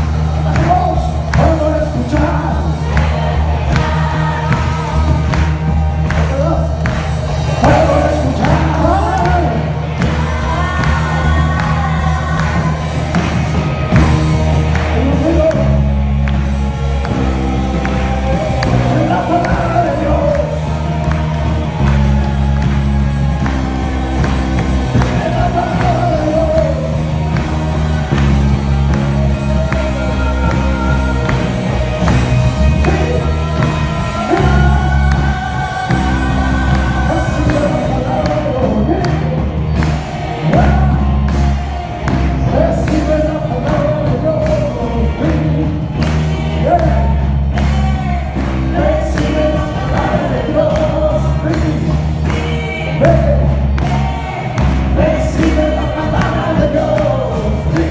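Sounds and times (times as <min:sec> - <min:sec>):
singing over a beat: 0:00.0 - 0:57.9.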